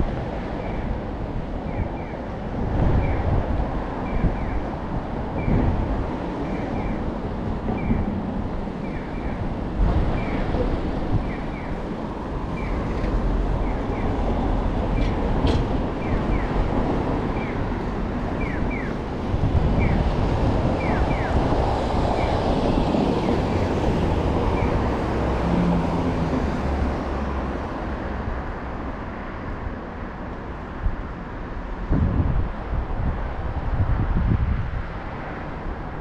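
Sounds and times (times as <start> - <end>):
street traffic: 0.0 - 36.0
wind noise on microphone: 0.0 - 36.0.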